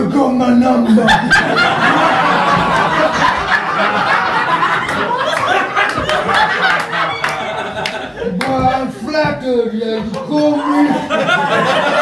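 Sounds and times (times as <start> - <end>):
audience laughing: 0.8 - 9.2, 9.8 - 12.0.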